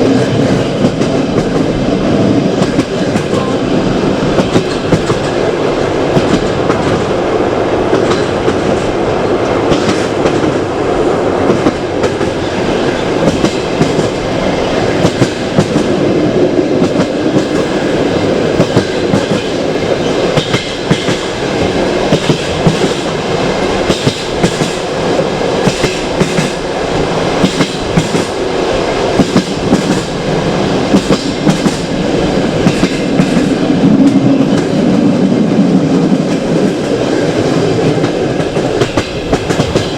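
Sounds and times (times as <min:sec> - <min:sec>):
train rumbling: 0:00.0 - 0:39.9
train wheels clicking on rails: 0:00.0 - 0:39.9.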